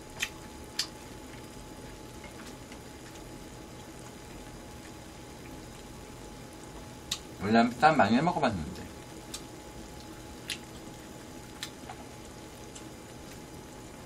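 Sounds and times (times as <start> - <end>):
broth simmering: 0.0 - 14.0.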